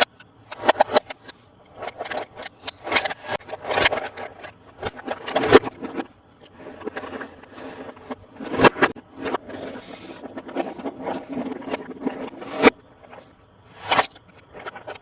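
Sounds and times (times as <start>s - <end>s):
plastic toy and packaging rustling: 0.0s - 15.0s.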